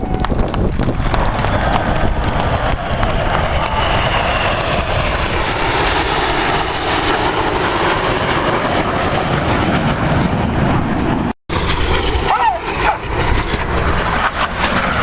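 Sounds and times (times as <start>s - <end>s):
aircraft engine running: 0.0s - 15.0s.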